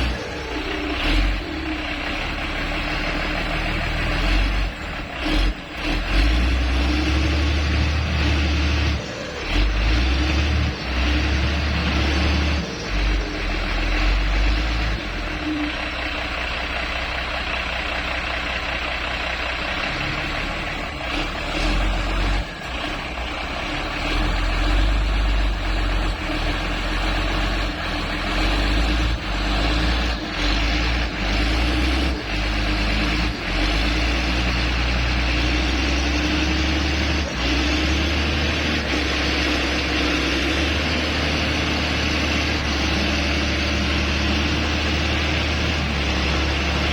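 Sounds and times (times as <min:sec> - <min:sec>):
grader diesel engine: 0:00.0 - 0:46.9.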